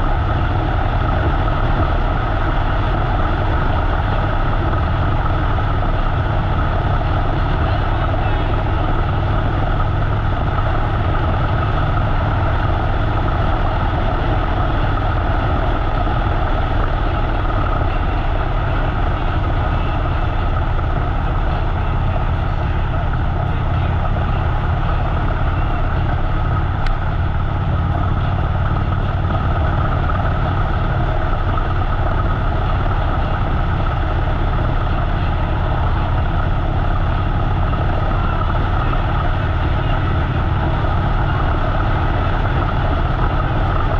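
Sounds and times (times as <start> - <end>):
motorcycle engine running: 0.0 - 43.9
road and wind noise: 0.0 - 43.9.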